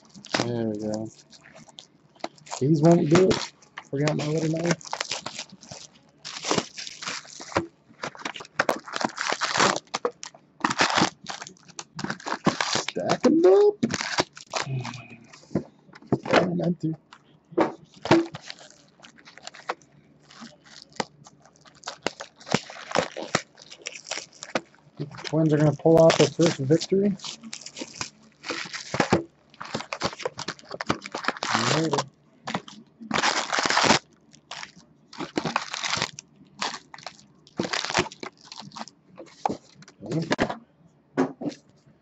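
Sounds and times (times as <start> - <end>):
foil wrappers crinkling: 0.0 - 15.5, 17.8 - 40.5.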